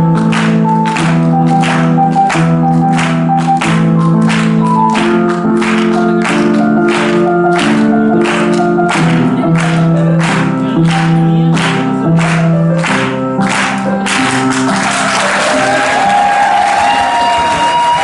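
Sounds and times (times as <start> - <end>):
held keyboard chords: 0.0 - 17.5.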